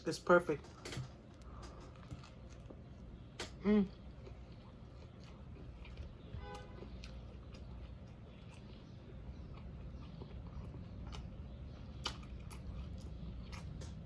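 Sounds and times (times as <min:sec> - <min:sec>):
low steady background hum: 0:00.0 - 0:14.0
chewing with wet mouth clicks: 0:00.8 - 0:14.0.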